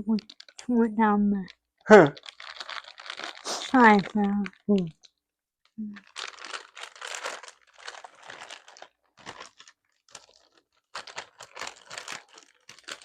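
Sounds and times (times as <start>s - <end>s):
snack bag crinkling: 0.0s - 0.8s, 1.4s - 5.1s, 5.8s - 13.0s.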